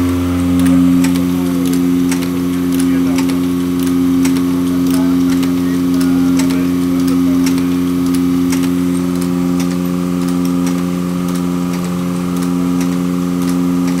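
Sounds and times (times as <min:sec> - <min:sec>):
machine motor hum: 0:00.0 - 0:14.0
sharp machine clicks: 0:00.0 - 0:14.0.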